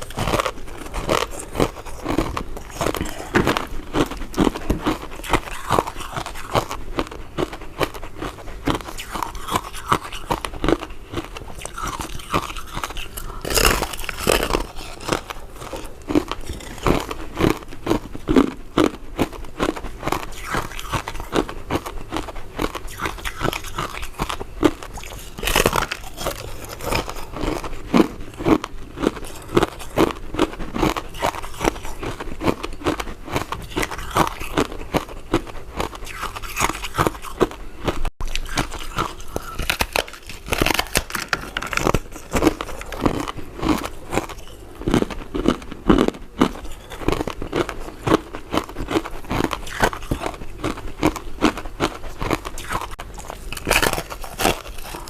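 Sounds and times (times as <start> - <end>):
chewing with sticky mouth clicks: 0.0 - 55.0
loud bite: 0.0 - 55.0.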